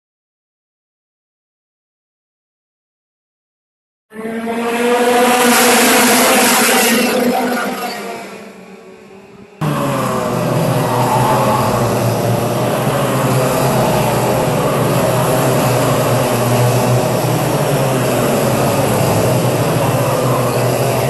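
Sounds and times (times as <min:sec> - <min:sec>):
kart engines racing: 0:04.1 - 0:21.0.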